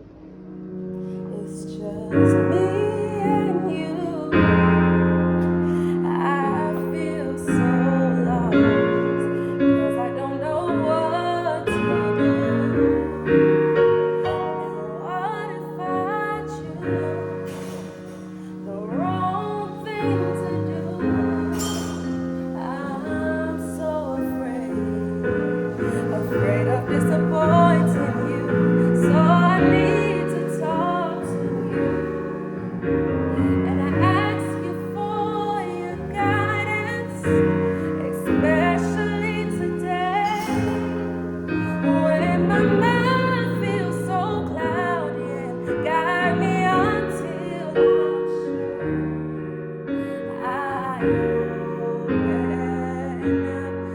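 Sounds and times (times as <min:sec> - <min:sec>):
piano chords: 0:00.0 - 0:53.9
solo voice singing: 0:01.2 - 0:48.8, 0:50.0 - 0:53.9.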